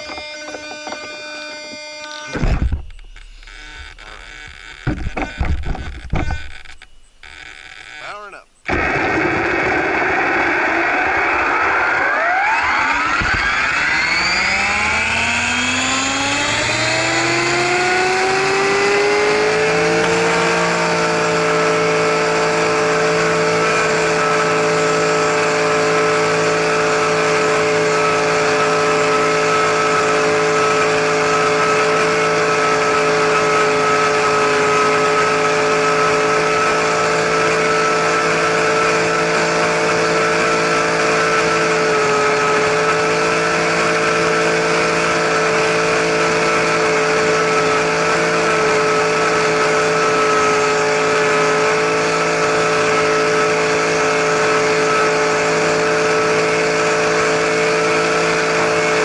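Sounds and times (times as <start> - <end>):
helicopter motor and rotor whine: 0.0 - 59.0.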